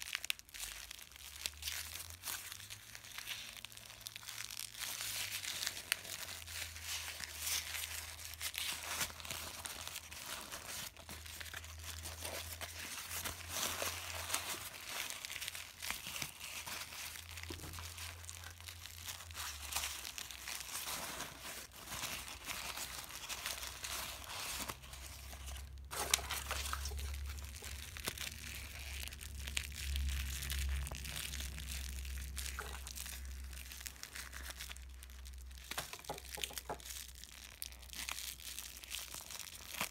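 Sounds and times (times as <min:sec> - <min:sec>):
plastic balloon crinkling: 0:00.0 - 0:39.9
tissue paper crinkling and tearing: 0:00.0 - 0:39.9.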